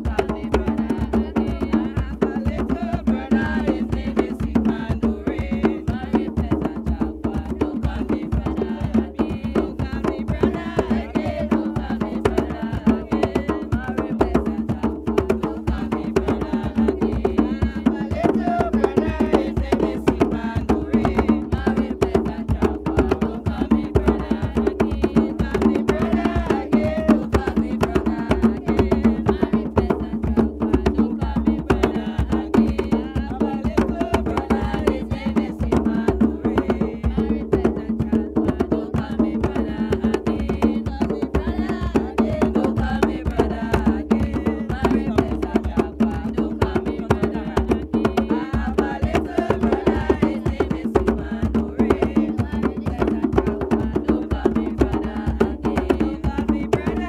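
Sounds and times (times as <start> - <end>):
djembes playing fast rhythm: 0.0 - 57.0.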